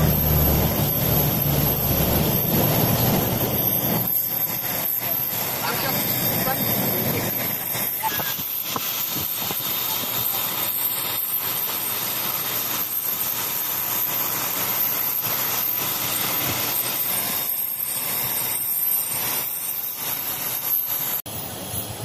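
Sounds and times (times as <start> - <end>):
loud rushing with high whine: 0.0 - 22.0.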